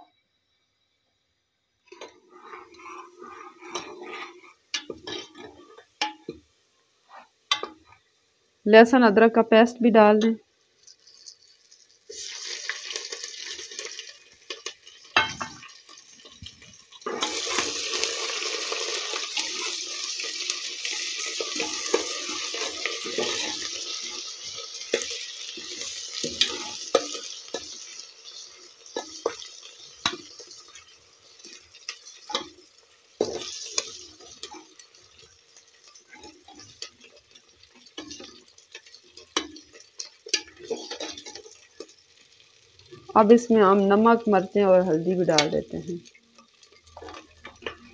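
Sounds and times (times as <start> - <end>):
onions sizzling in hot oil: 0.0 - 47.9.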